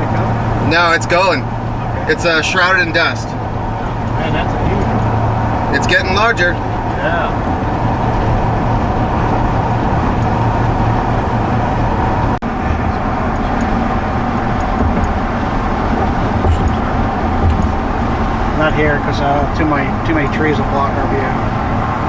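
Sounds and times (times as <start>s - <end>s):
road and engine noise inside car: 0.0s - 22.0s.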